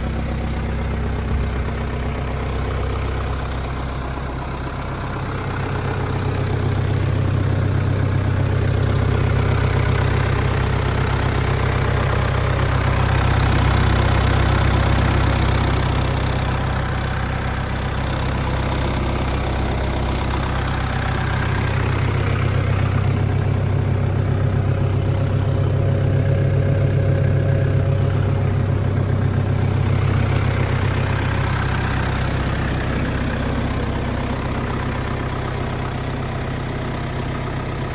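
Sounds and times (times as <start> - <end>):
tractor diesel engine droning: 0.0 - 37.9.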